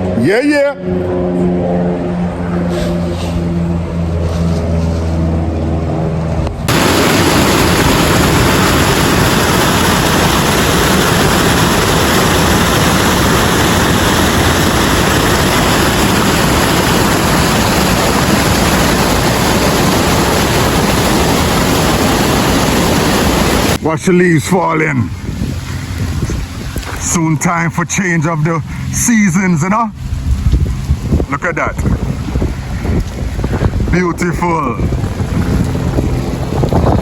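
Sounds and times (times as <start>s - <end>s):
loud even rushing noise: 0.0s - 23.9s, 28.3s - 37.0s
low humming drone: 0.0s - 24.0s, 24.9s - 37.0s.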